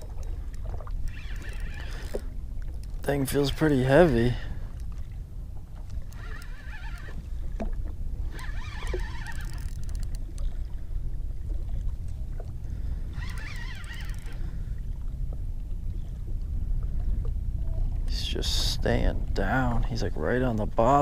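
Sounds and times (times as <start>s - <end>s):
low rumble of wind and water: 0.0s - 21.0s.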